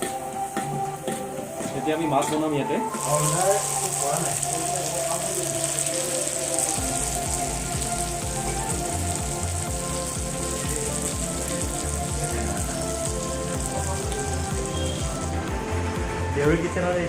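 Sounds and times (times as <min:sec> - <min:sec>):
fish sizzling in hot oil: 0:00.0 - 0:15.5
background music with low beat: 0:00.0 - 0:17.0.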